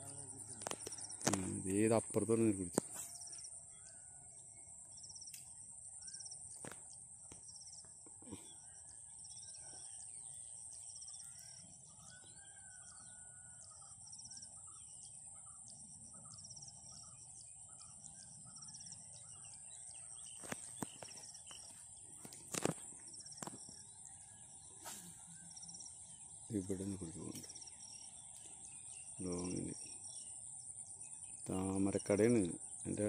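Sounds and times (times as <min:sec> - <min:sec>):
birds calling and chirping: 0:00.0 - 0:33.0.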